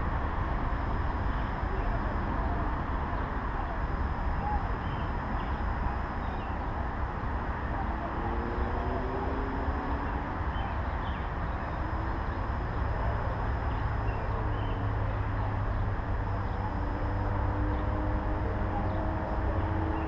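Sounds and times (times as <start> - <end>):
distant engine rumble: 0.0 - 20.0.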